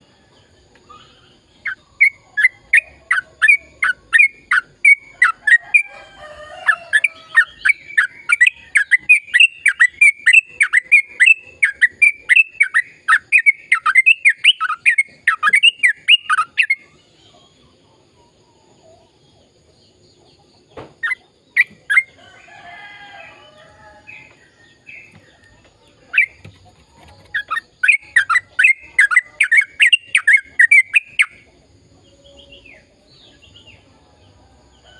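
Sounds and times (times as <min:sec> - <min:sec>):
bulbul chirping song: 0:00.0 - 0:06.0, 0:06.6 - 0:22.2, 0:23.8 - 0:34.9
soft bird chatter: 0:00.0 - 0:34.9.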